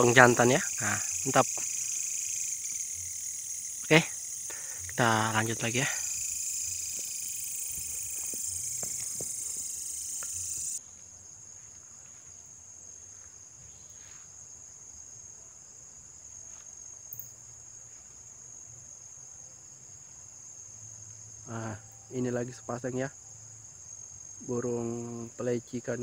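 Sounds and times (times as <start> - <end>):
crickets trilling: 0.0 - 26.0
insect buzz: 0.0 - 26.0.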